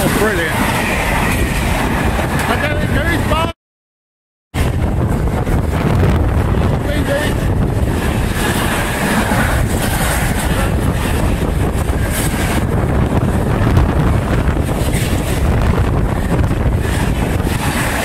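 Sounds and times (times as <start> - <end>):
freight train rumbling over rails: 0.0 - 3.6, 4.6 - 18.0
wind buffeting the microphone: 0.0 - 3.6, 4.5 - 18.0.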